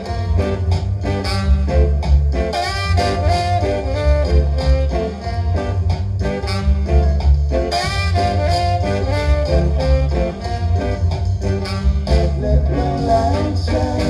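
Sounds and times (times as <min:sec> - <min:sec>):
song with heavy bass and steady beat: 0:00.0 - 0:14.0.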